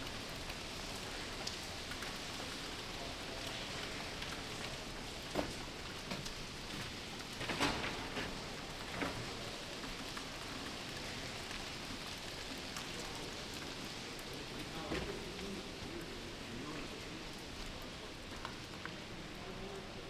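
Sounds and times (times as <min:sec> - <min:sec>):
rain-like hiss: 0:00.0 - 0:20.0.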